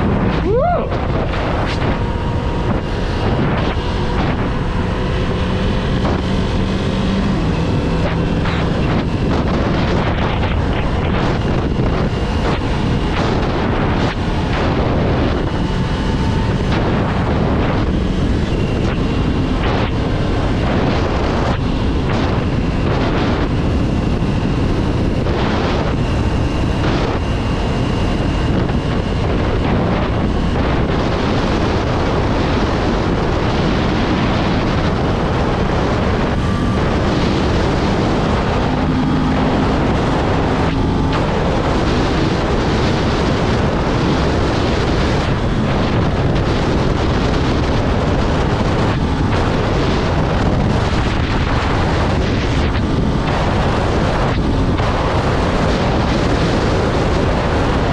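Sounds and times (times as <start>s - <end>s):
motorcycle engine running: 0.0s - 57.9s
wind rushing on microphone: 0.0s - 57.9s.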